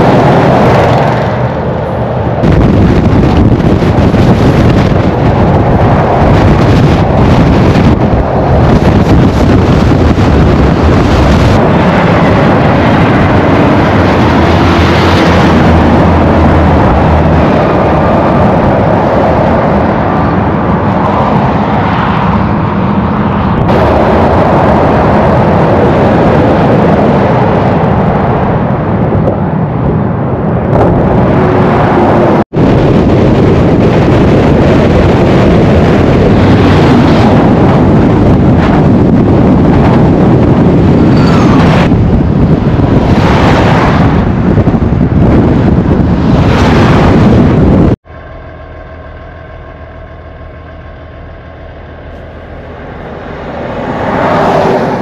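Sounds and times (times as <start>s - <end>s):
trucks passing at speed: 0.0s - 55.0s
wind buffeting microphone: 0.0s - 55.0s.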